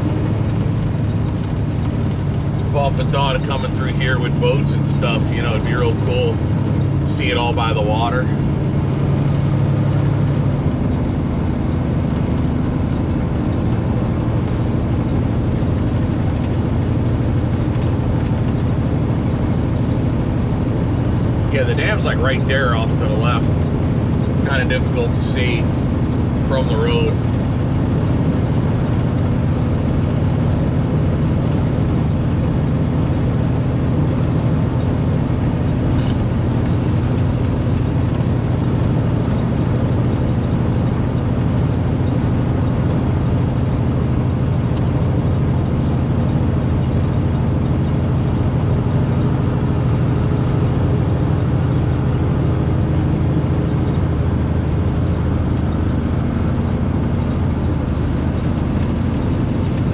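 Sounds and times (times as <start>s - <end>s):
diesel engine drone: 0.0s - 59.9s
road noise: 0.0s - 59.9s.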